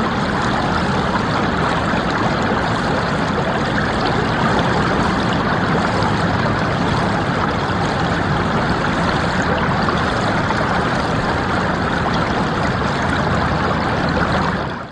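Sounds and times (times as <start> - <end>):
stream babbling over stones: 0.0 - 14.9.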